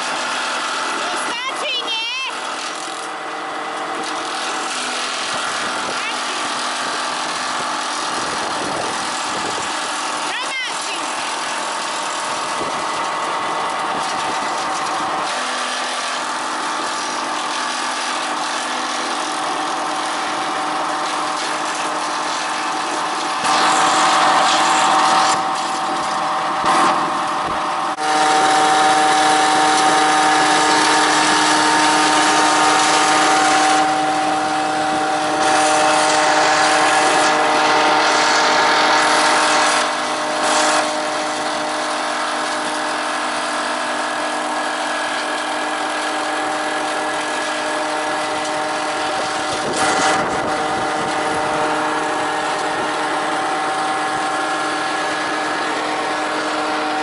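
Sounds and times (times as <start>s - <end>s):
branch chipper humming: 0.0s - 57.0s.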